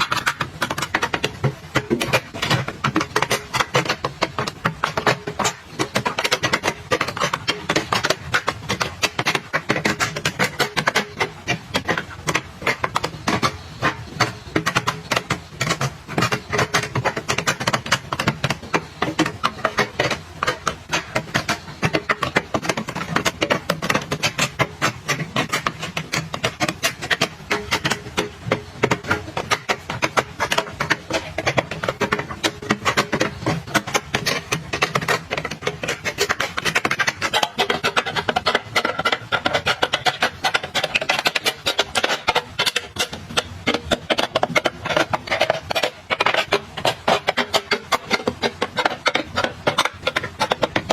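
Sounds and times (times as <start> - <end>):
small items clicking and tapping: 0.0 - 50.9.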